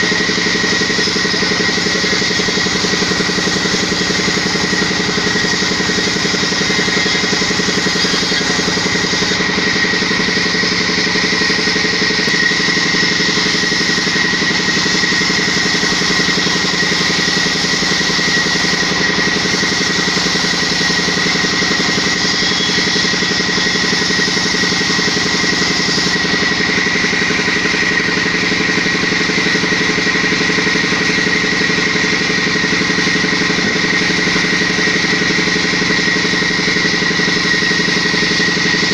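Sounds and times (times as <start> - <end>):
high whine: 0.0 - 38.9
motor running steadily: 0.0 - 38.9.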